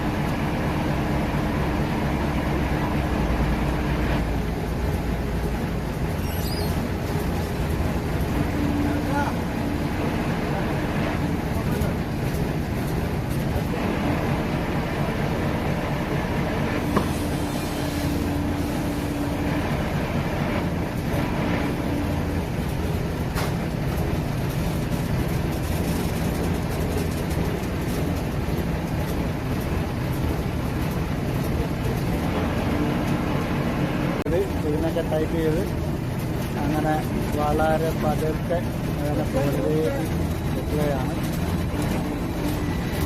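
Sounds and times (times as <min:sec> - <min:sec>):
diesel engine running steadily: 0:00.0 - 0:43.0.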